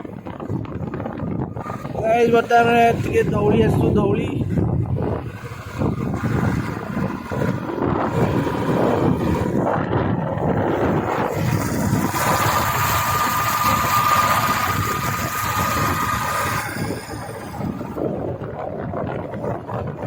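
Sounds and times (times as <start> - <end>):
thin steady whine: 0.0 - 19.6
motorcycle engine running: 0.0 - 20.0
rush of riding noise: 0.0 - 20.0.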